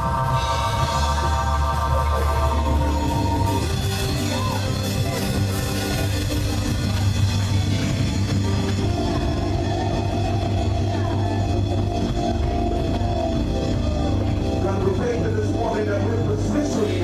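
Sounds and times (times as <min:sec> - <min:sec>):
church band sustained chords: 0:00.0 - 0:17.0
steady low bass: 0:00.0 - 0:17.0.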